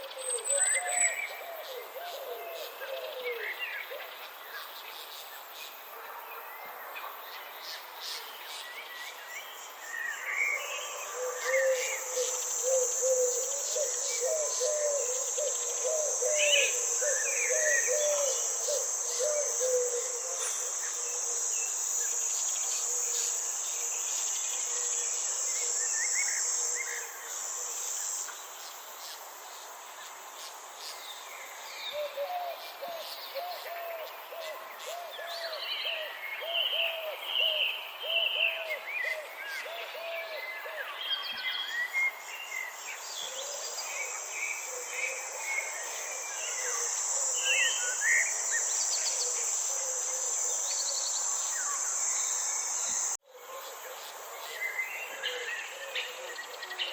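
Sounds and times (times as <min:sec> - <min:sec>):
insects trilling: 0:07.1 - 0:56.9.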